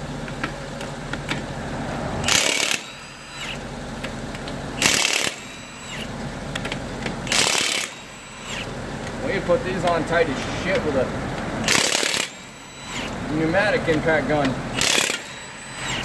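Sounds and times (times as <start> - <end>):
motor winding down: 0.0 - 16.0
impact wrench hammering: 2.2 - 16.0.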